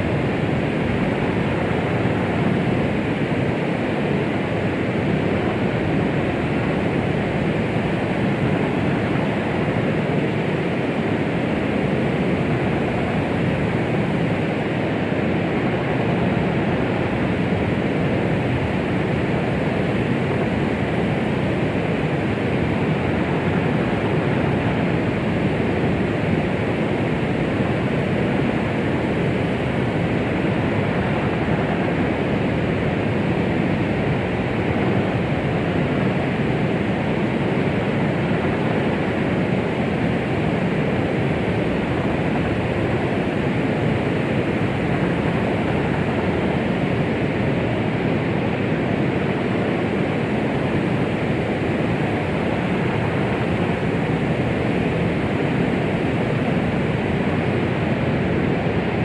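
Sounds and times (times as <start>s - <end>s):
white noise rushing: 0.0s - 59.0s.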